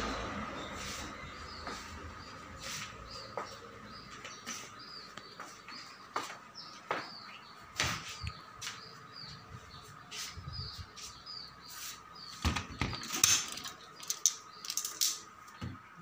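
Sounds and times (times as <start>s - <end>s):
small bird chirping: 0.6s - 15.8s.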